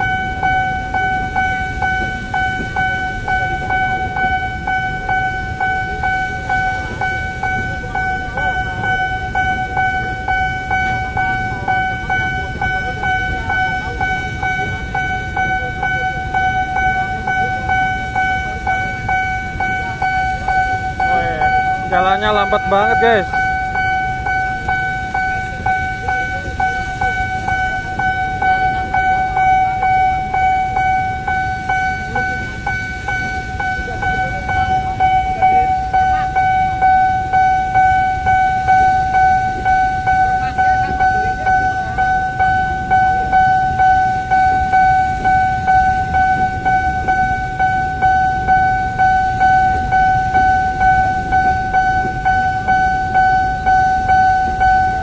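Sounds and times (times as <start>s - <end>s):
freight train rumbling past: 0.0s - 55.0s
level crossing alarm tone: 0.0s - 55.0s
train wheels clacking: 0.0s - 55.0s.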